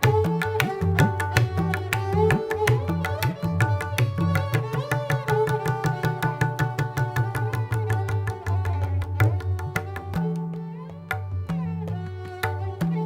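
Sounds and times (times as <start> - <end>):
sliding sarangi melody: 0.0 - 13.0
tabla playing fast strokes: 0.0 - 13.0.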